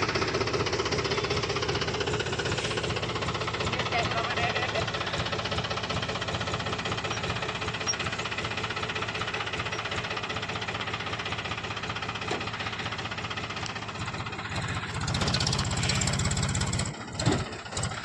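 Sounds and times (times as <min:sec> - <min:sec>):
diesel tractor engine chugging: 0:00.0 - 0:18.0.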